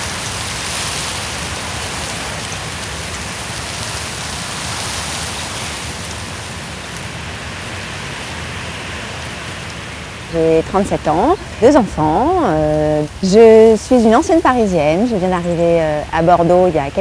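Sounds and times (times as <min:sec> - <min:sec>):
rain falling on water: 0:00.0 - 0:17.0.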